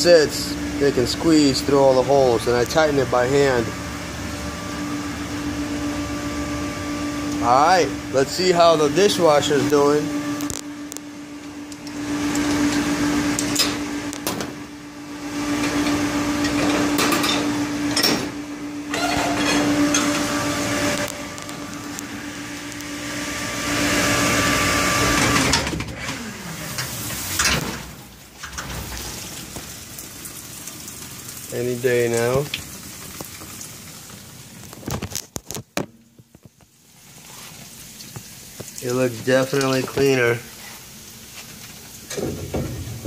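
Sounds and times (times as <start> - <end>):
dishwasher motor hum: 0.0 - 34.9, 36.0 - 43.0
water washing inside dishwasher: 0.0 - 43.0.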